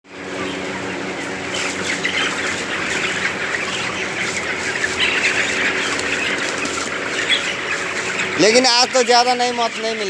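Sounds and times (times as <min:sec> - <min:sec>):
chickens clucking and cheeping: 0:00.1 - 0:10.0.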